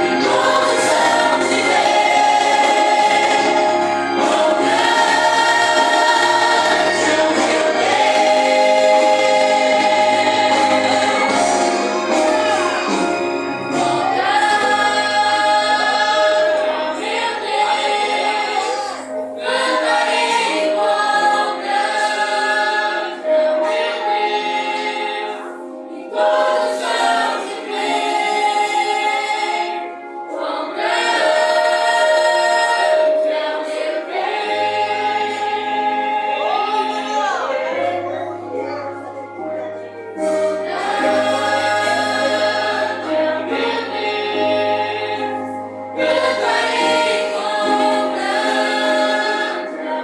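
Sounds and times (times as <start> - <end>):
youth choir singing: 0.0 - 38.2, 39.5 - 50.0.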